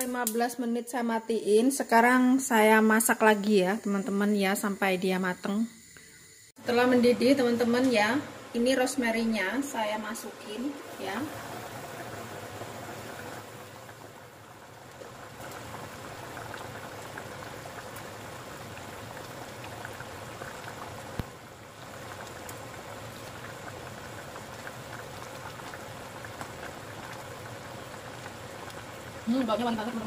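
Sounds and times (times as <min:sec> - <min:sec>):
liquid boiling in a pot: 0:01.3 - 0:30.0.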